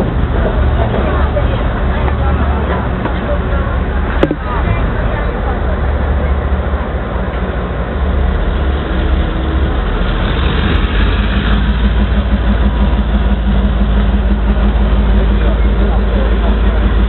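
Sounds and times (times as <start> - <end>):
locomotive engine rumbling: 0.0 - 17.0.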